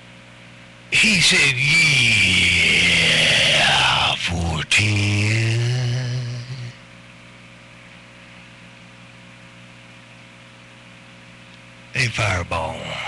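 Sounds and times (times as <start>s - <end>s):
electrical mains hum: 0.0s - 13.0s
loud buzzy held tone: 0.0s - 13.0s.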